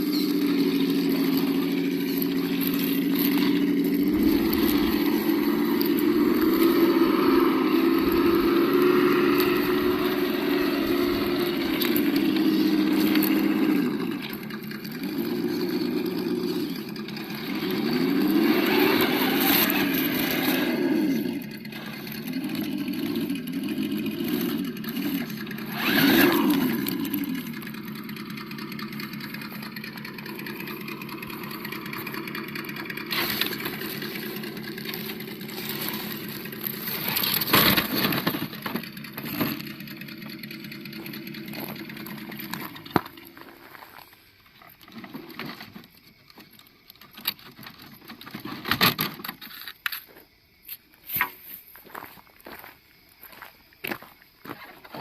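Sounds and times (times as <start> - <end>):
simulated engine from small speaker: 0.0 - 49.2.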